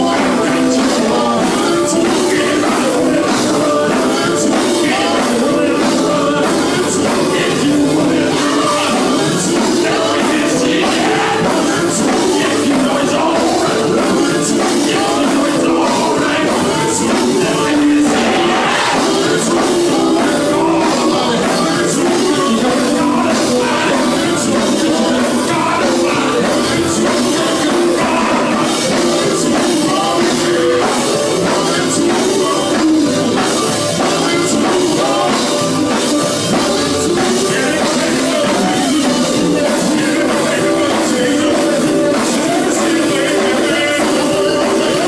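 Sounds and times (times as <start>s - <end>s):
driving drum beat: 0.0s - 45.0s
gospel band playing: 0.0s - 45.0s.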